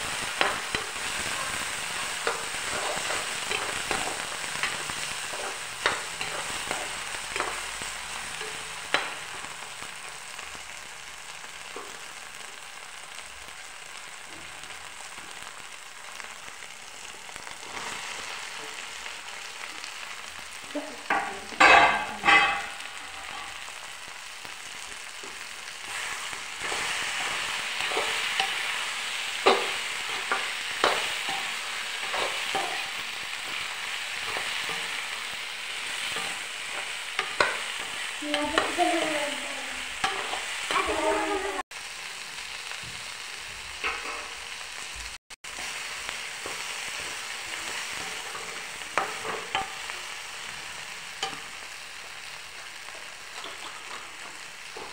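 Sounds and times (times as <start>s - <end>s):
vegetables sizzling in a pan: 0.0s - 54.9s.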